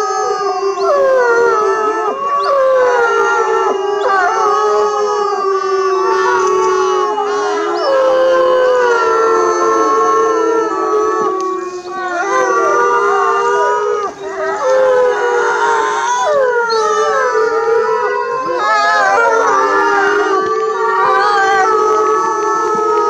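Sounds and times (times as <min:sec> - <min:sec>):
wolves howling in chorus: 0:00.0 - 0:23.0.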